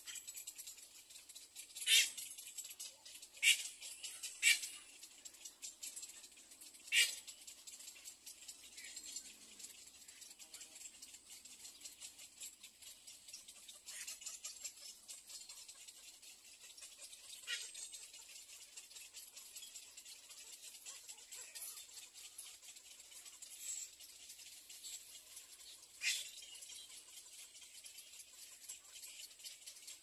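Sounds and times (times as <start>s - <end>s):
faint steady crackle: 0.0s - 30.0s.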